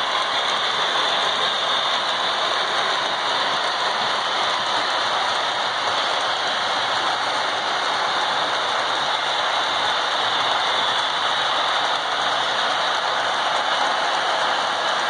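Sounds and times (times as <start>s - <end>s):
model train wheels rattling on rail: 0.0s - 15.0s.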